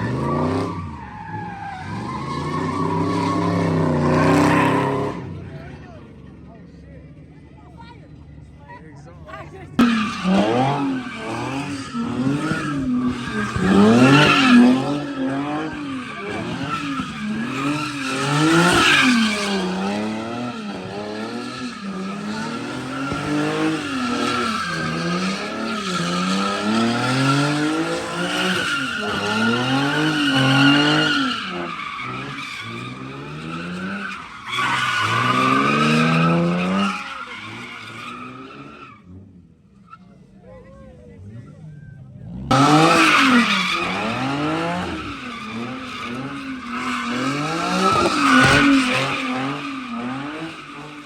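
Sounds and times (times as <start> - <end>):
car engine revving: 0.0 - 6.4, 9.3 - 39.6, 41.1 - 51.0
tires squealing: 0.0 - 6.4, 7.2 - 51.0.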